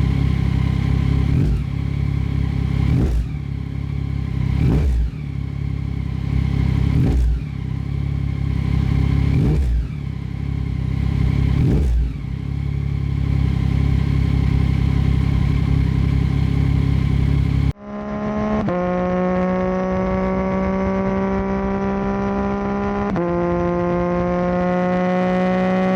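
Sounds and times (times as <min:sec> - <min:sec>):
motorcycle engine idling and revving: 0:00.0 - 0:25.9.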